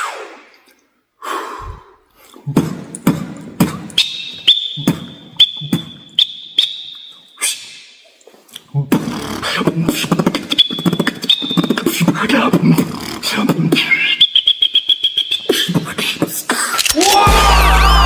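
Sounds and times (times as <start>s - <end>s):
person beatboxing: 1.3s - 6.2s, 7.4s - 7.9s, 8.5s - 17.6s.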